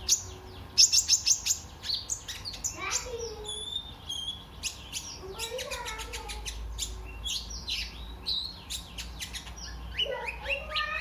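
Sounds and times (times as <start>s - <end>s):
bird chirping and whistling: 0.0s - 11.0s
steady low hum: 0.0s - 11.0s.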